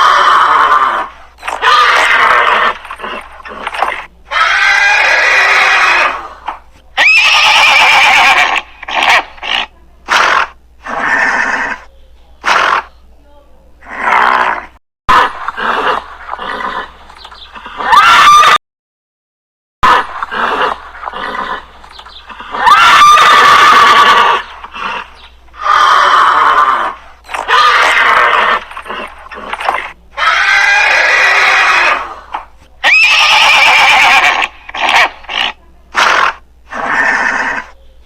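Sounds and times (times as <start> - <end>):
horse whinnying: 0.0 - 12.9, 13.8 - 17.0, 17.6 - 18.6, 19.8 - 37.8.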